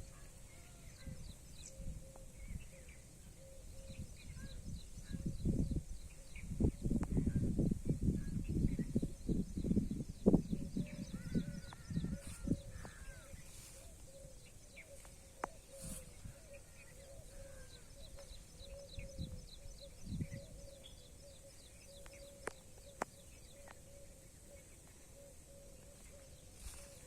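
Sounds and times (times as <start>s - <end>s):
faint bird chirping: 0.0s - 27.0s.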